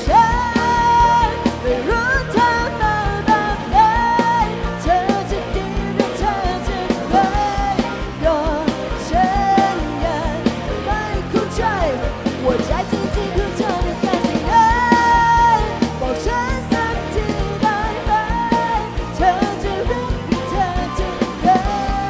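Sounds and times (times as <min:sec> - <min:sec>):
drum kit beat: 0:00.0 - 0:22.0
electric guitar: 0:00.0 - 0:22.0
woman singing: 0:00.0 - 0:22.0.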